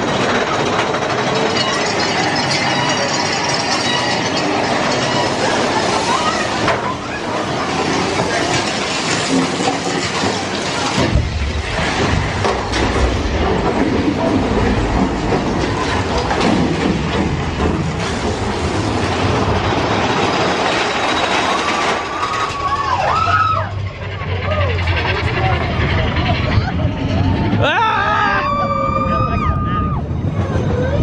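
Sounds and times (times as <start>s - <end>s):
deep rumble: 0.0s - 31.0s
roller coaster clattering on track: 0.0s - 31.0s.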